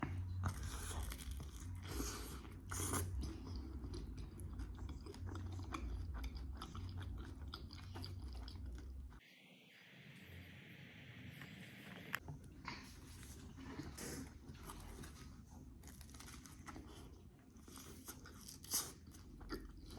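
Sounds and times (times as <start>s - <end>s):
person chewing food: 0.0s - 9.2s, 12.8s - 19.9s.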